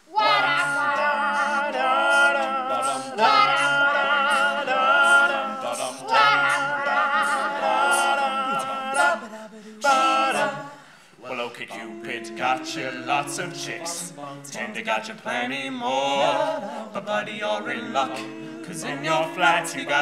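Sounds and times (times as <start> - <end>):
men singing a cappella harmony: 0.1 - 20.0.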